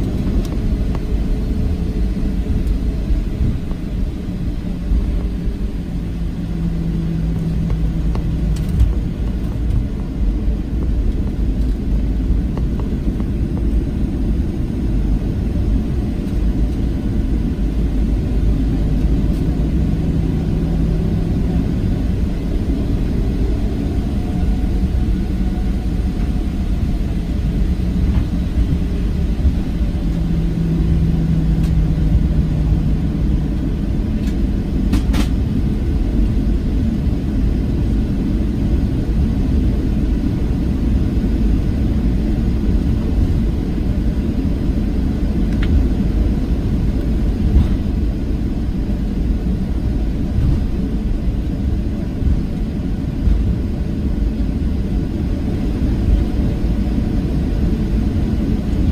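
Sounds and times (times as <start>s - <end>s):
aircraft engines rumbling: 0.0s - 58.9s
low hum: 0.0s - 58.9s.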